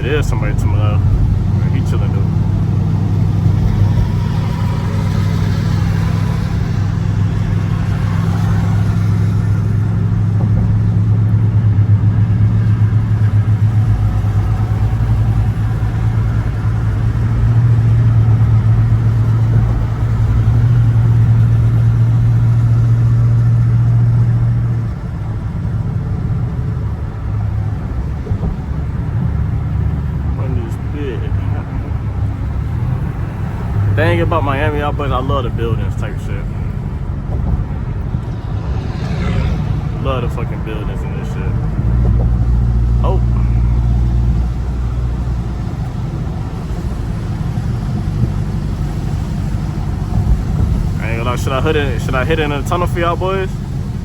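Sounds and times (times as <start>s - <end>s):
car engine cruising: 0.0s - 54.0s.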